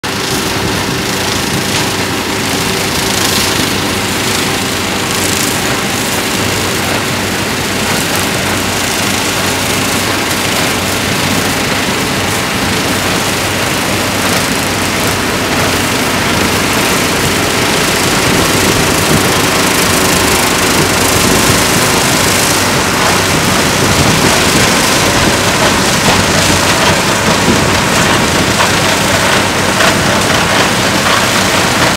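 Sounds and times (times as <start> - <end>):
baler machine noise: 0.0 - 31.9
tractor engine running under load: 0.0 - 31.9.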